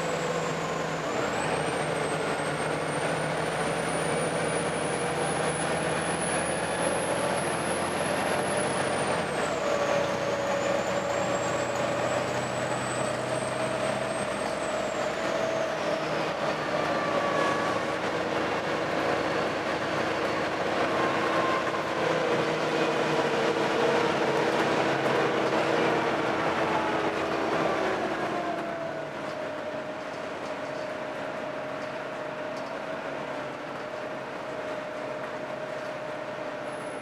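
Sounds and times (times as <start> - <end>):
bus diesel engine running: 0.0 - 37.0.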